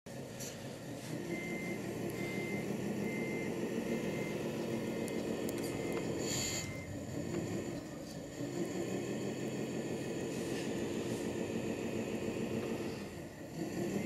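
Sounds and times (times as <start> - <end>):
diesel engine drone: 0.1 - 14.0
reversing beeper: 1.0 - 14.0.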